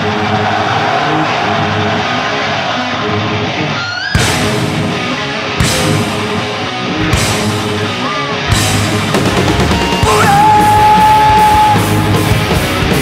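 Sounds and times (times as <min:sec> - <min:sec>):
heavy metal band playing live: 0:00.0 - 0:13.0.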